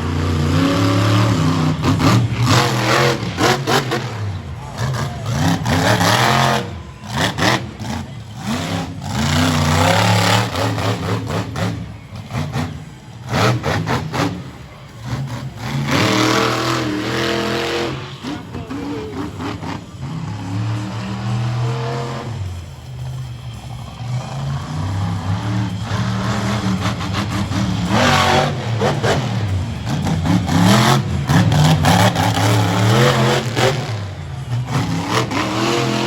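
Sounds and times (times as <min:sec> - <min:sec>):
monster truck engine revving: 0:00.0 - 0:36.0.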